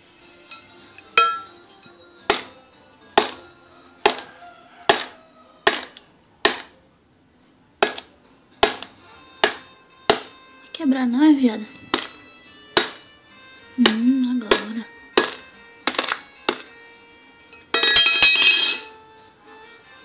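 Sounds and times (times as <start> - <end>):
faint music: 0.0 - 20.0.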